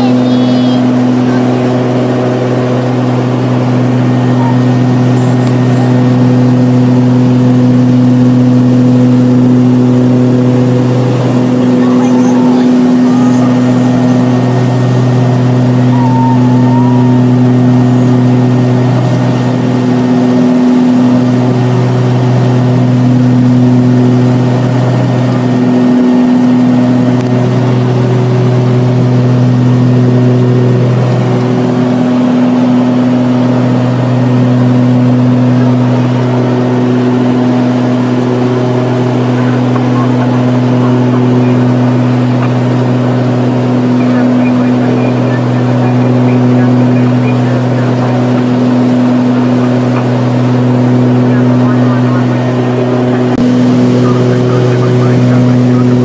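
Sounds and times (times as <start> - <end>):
aircraft engines and propellers droning: 0.0 - 56.0.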